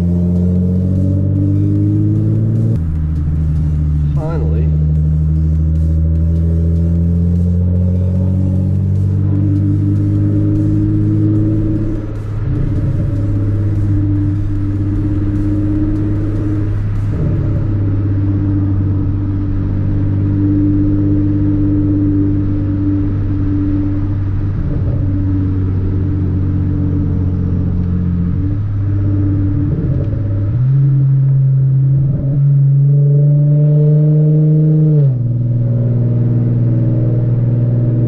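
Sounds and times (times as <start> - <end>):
car engine drone from inside cabin: 0.0 - 38.0.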